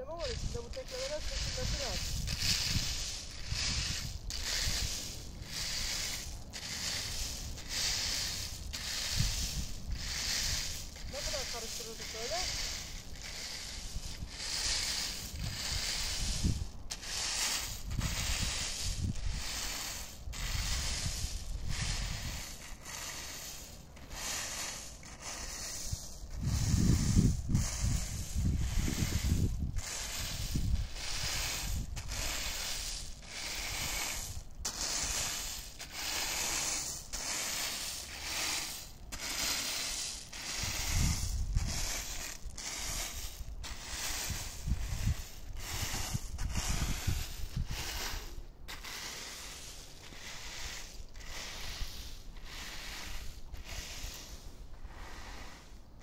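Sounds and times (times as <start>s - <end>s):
rake dragged through hazelnuts: 0.0s - 56.0s.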